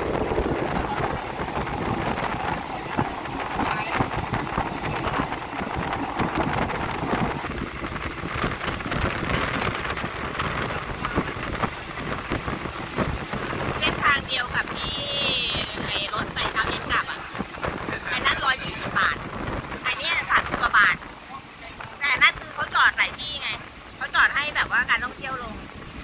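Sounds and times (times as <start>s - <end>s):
vehicle rumbling and rattling: 0.0s - 26.0s
wind buffeting microphone: 0.0s - 26.0s.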